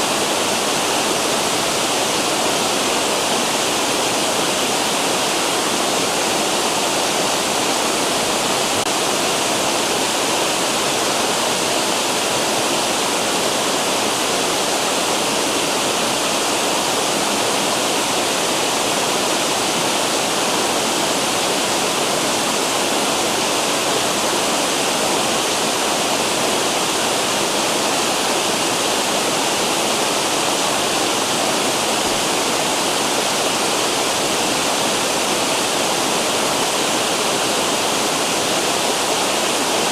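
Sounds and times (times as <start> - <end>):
water rushing over falls: 0.0 - 39.9.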